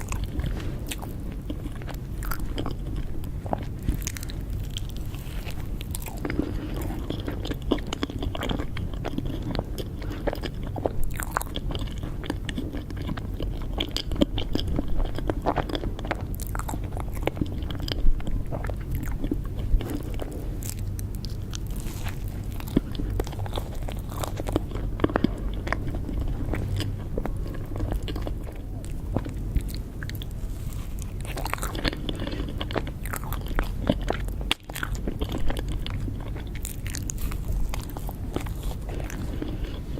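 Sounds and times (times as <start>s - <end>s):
chewing with mouth clicks: 0.0s - 39.9s
low hum: 0.0s - 39.9s.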